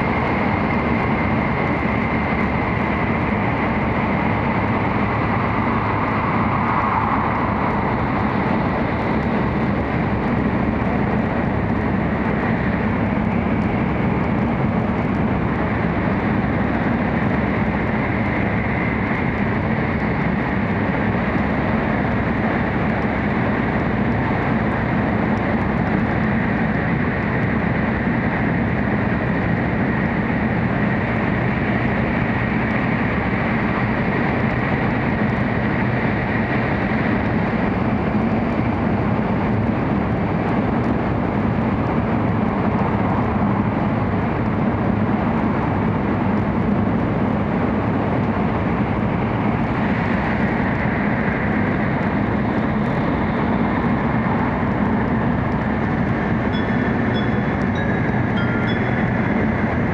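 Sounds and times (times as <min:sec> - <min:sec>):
train interior rushing rumble: 0:00.0 - 0:59.9.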